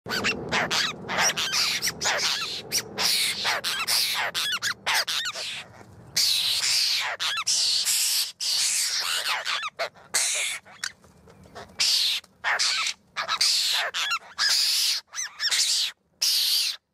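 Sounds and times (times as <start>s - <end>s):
birds harsh scratchy calls: 0.1s - 16.9s.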